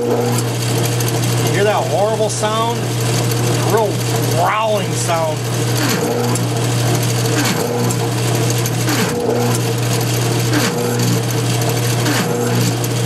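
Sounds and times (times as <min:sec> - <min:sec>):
alternator growling and humming: 0:00.0 - 0:13.0.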